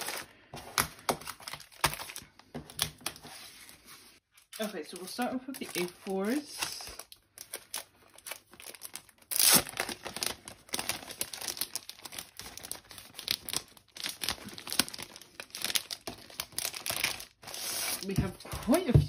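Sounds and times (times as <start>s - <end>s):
plastic sleeve crinkling: 0.0s - 19.0s.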